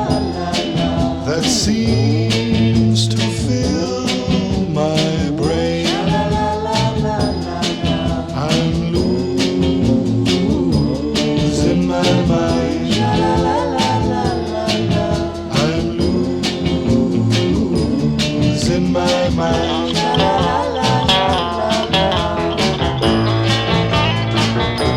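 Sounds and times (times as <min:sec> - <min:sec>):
drums beating: 0:00.0 - 0:24.9
instrumental rock music: 0:00.0 - 0:24.9.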